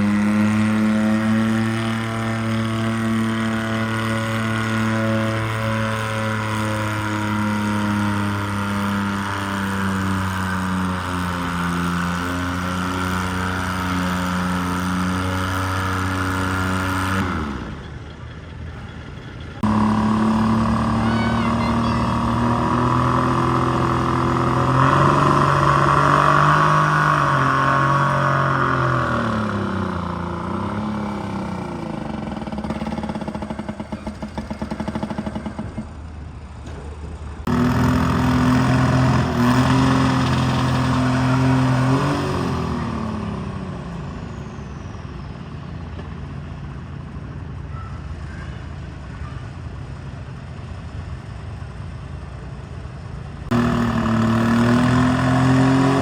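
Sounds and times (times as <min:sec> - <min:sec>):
tractor engine labouring: 0:00.0 - 0:56.0.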